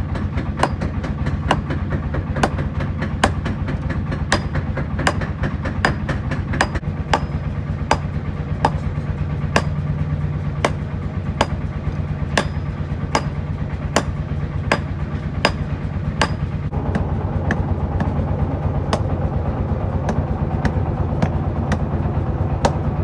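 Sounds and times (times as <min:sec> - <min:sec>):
hammer striking metal on anvil: 0:00.0 - 0:09.9, 0:10.6 - 0:18.2, 0:18.9 - 0:19.1, 0:20.1 - 0:21.9, 0:22.6 - 0:22.9
low machine hum: 0:00.0 - 0:23.0.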